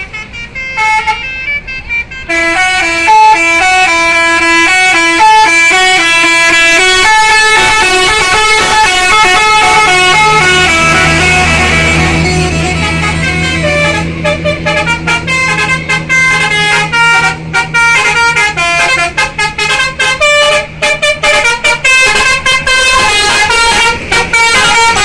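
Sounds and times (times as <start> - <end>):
multi-tone bus horns playing tune: 0.0 - 25.0.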